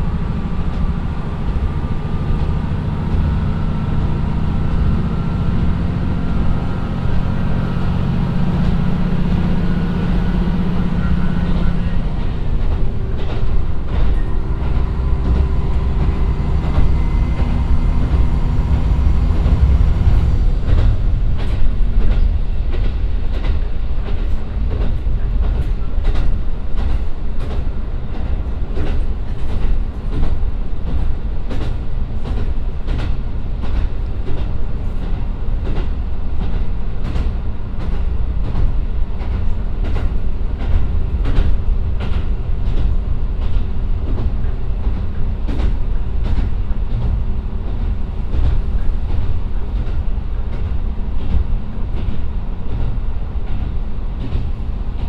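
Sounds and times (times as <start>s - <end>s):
train engine drone: 0.0s - 55.0s.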